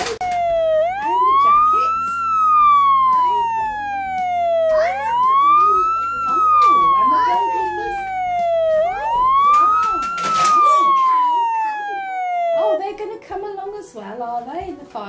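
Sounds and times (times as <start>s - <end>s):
electronic siren wailing: 0.0s - 12.8s.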